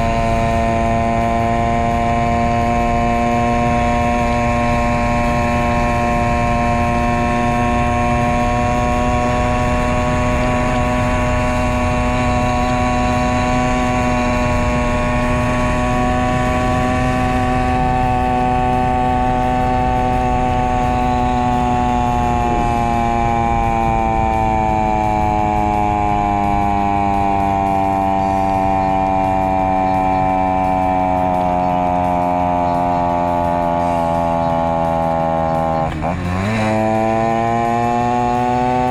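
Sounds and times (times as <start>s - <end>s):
small motorcycle engine: 0.0s - 38.9s.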